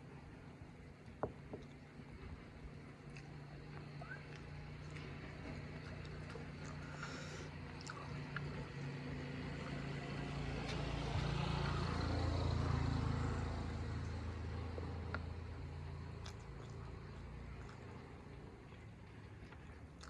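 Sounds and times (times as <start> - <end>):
vehicle engine hum passing: 0.0 - 20.0.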